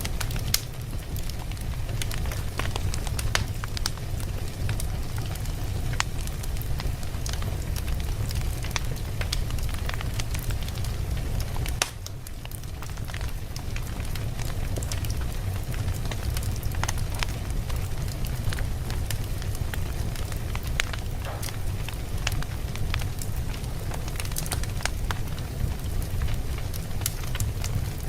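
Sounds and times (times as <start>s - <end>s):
fire rumbling: 0.0s - 28.0s
logs crackling and popping: 0.0s - 28.0s.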